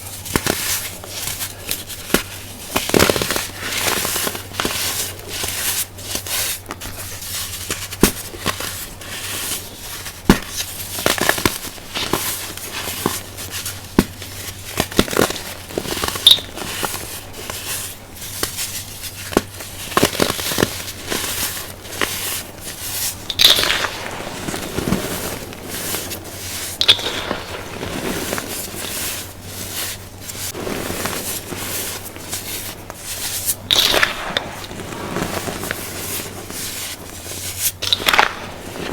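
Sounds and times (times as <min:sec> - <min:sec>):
baking soda crunching: 0:00.0 - 0:38.9.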